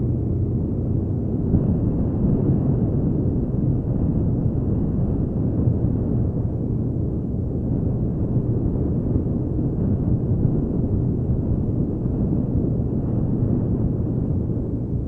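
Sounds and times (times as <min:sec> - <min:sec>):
wind rush on microphone: 0:00.0 - 0:15.0.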